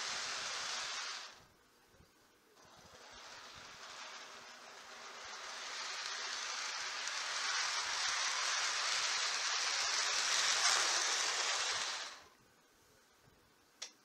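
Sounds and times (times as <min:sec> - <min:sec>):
model train wheels rumbling on rail: 0:00.0 - 0:01.5, 0:02.6 - 0:12.4.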